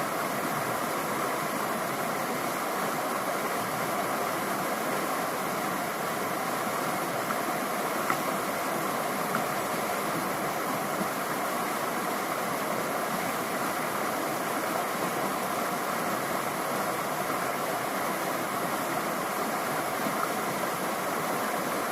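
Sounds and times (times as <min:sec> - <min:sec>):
creek water rushing: 0:00.0 - 0:21.9.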